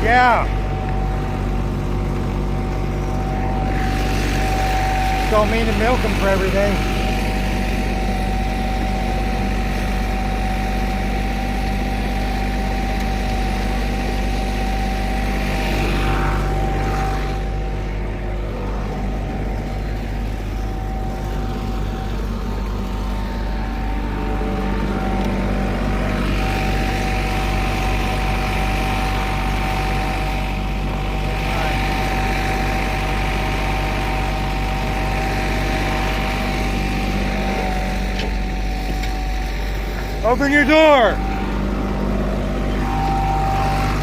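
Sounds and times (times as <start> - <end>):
constant high whine: 0.0 - 44.0
diesel engine running: 0.0 - 44.0.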